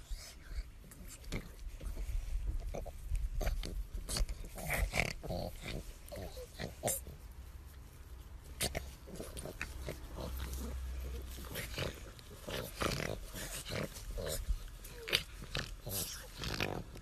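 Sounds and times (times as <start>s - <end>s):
dog grunting: 1.0s - 7.3s, 8.4s - 17.0s.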